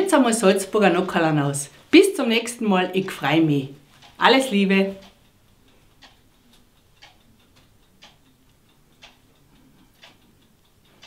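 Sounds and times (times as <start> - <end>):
clock ticking faintly: 0.0 - 11.0.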